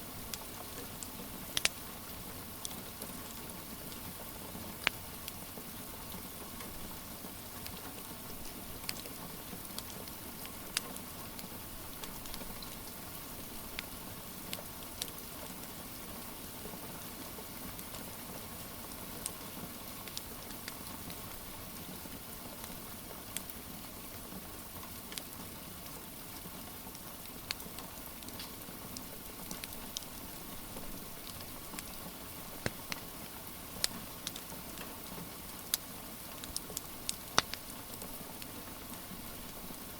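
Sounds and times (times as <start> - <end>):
steady rain: 0.0 - 39.9
wood fire crackling and popping: 0.1 - 16.7, 17.4 - 23.7, 24.6 - 39.9.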